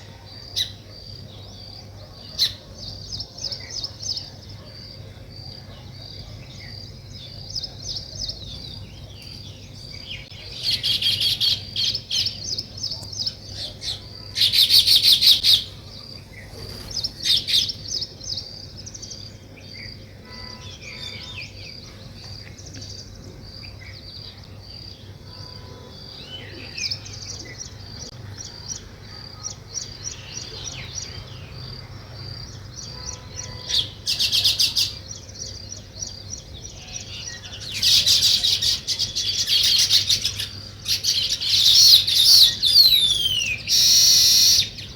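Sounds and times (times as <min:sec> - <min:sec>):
birds chattering fast: 0:00.0 - 0:44.9
birds chirping: 0:00.0 - 0:44.9.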